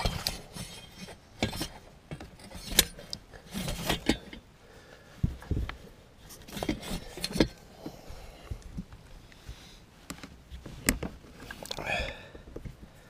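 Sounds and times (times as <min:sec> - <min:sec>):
cables and plug clicking and rattling: 0:00.0 - 0:04.4, 0:05.2 - 0:13.0.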